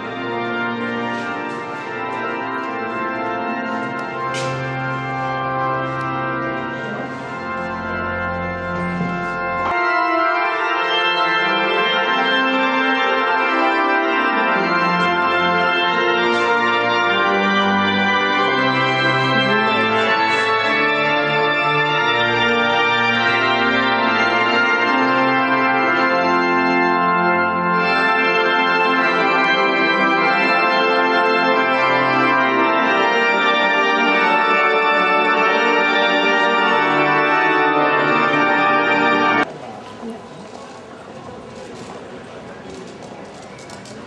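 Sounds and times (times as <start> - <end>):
organ chords: 0.0 - 39.5.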